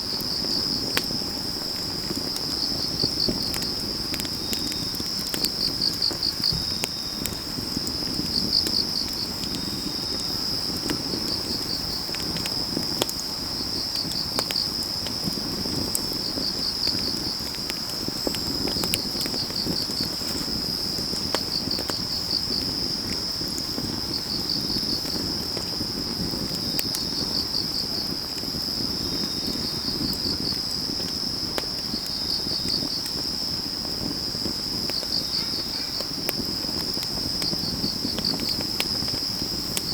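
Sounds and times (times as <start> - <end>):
crickets trilling and chirping: 0.0 - 39.9
wood fire crackling: 0.0 - 39.9.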